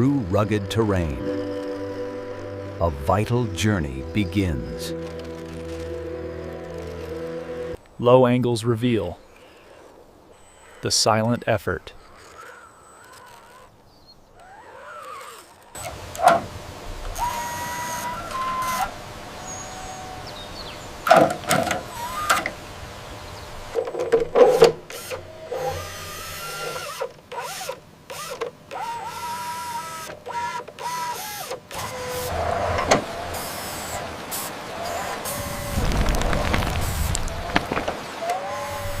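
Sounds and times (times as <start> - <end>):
small electric motors whining: 0.0 - 2.8, 4.9 - 7.8, 9.4 - 10.9, 11.9 - 39.0.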